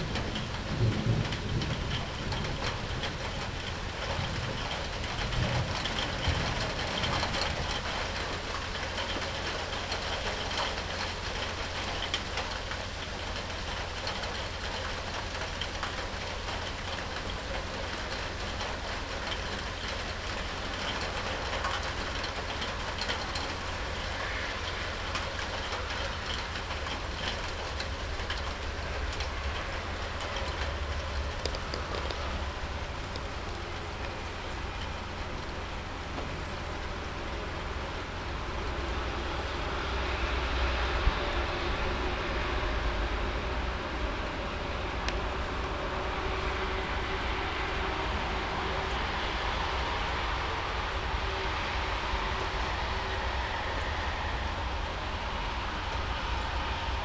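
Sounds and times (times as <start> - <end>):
steady rain falling: 0.0 - 57.0
thunder rumble: 0.0 - 57.0.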